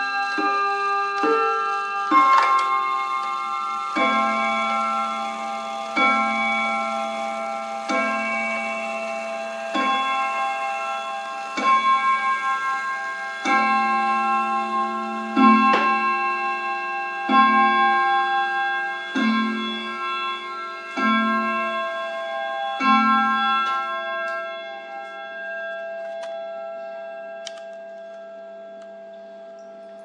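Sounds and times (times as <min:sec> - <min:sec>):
clock ticking: 0:00.0 - 0:29.7
clock striking on gong rods: 0:00.0 - 0:29.9.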